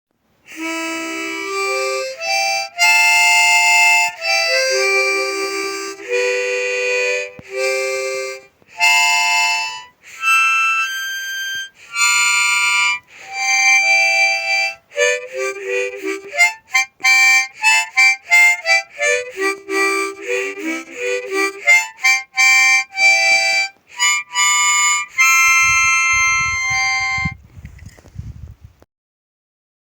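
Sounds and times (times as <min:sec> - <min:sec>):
harmonica playing: 0:00.5 - 0:27.4.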